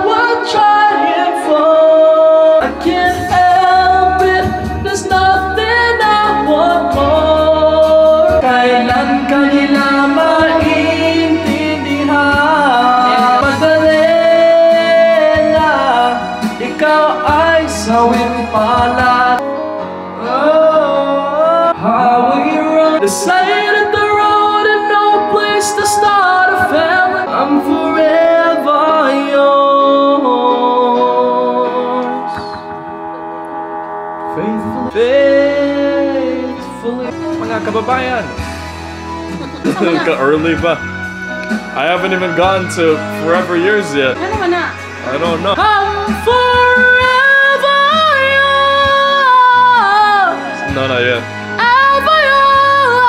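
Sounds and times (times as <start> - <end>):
man singing into microphone: 0.0 - 19.4, 20.1 - 32.9, 34.3 - 37.8, 41.6 - 44.3, 44.9 - 53.0
music backing track: 0.0 - 53.0.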